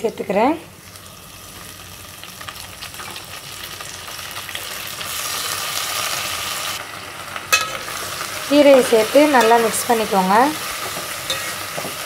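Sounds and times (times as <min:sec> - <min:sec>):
hot oil sizzling in a pan: 0:00.7 - 0:12.0.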